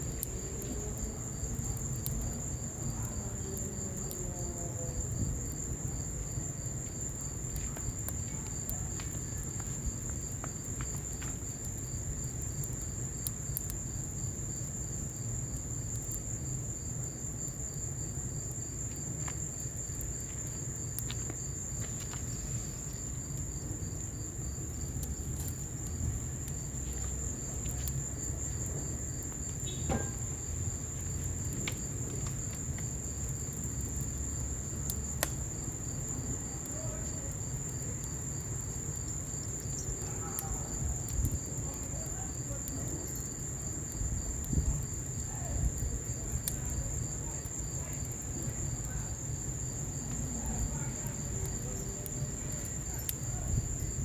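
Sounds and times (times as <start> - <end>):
insect chirping: 0.0 - 54.0
insects trilling: 0.0 - 54.0
wood fire crackling: 0.0 - 54.0.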